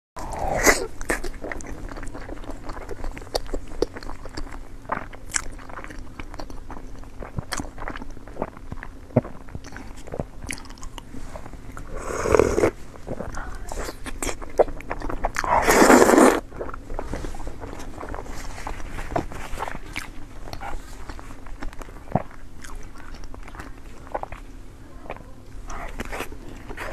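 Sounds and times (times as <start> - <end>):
person chewing and biting: 0.2 - 11.1, 11.7 - 24.5.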